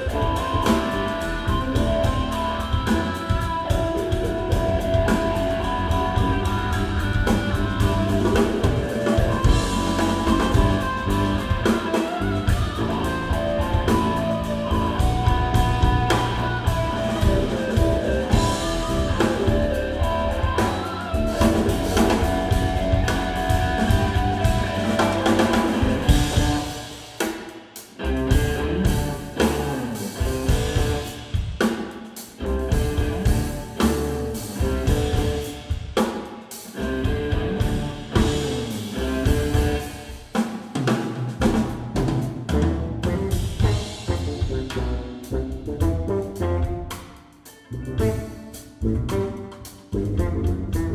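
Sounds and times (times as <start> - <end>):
electric bass: 0.0 - 27.0, 28.0 - 31.3, 32.4 - 35.6, 36.7 - 40.2, 41.4 - 47.0, 47.6 - 50.9
electric guitar: 0.0 - 36.0, 36.6 - 40.4, 41.3 - 50.9
drum kit: 0.0 - 50.9.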